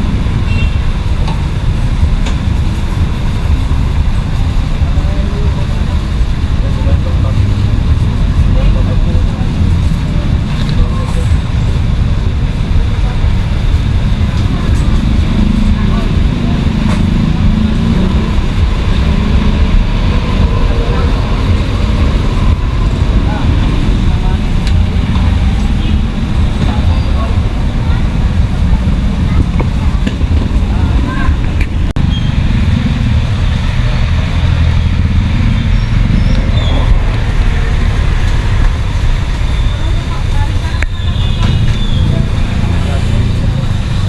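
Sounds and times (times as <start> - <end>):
people talking indistinctly: 0.0 - 44.0
road traffic rumble: 0.0 - 44.0.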